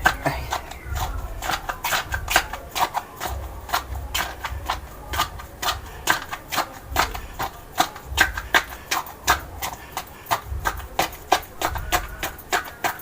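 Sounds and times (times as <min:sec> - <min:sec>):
soft low thumps: 0:00.0 - 0:02.7, 0:03.3 - 0:12.5
quick repeated clicks and knocks: 0:00.0 - 0:13.0.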